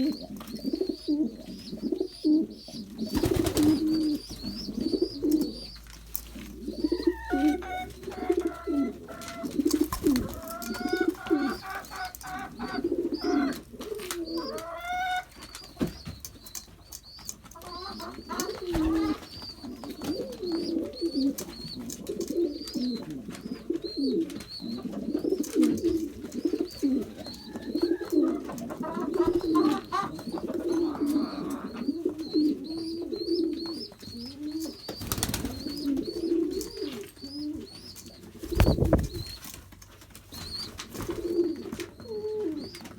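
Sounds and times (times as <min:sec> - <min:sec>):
pigeons cooing: 0:00.0 - 0:39.6, 0:40.2 - 0:42.9.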